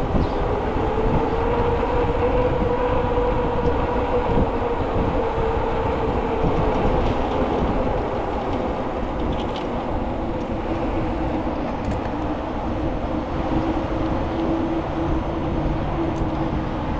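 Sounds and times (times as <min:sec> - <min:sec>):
bicycle tyres rolling: 0:00.0 - 0:16.7
wind on microphone: 0:00.0 - 0:16.9.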